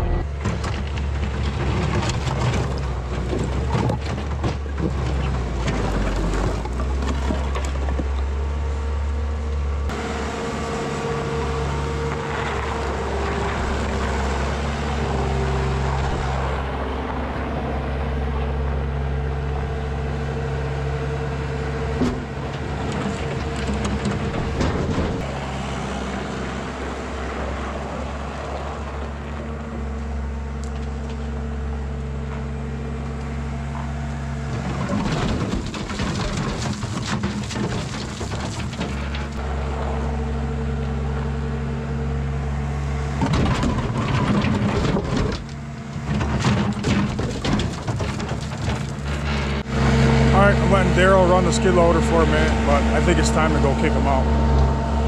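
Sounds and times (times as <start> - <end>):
heavy equipment diesel engines: 0.0 - 55.0.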